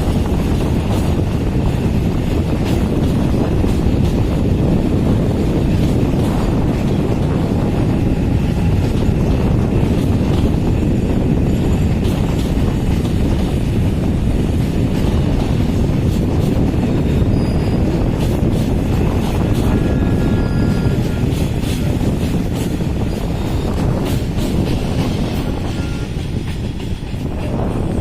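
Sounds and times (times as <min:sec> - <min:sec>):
freight train wheels rumbling: 0:00.0 - 0:28.0
rail clicks: 0:00.0 - 0:28.0.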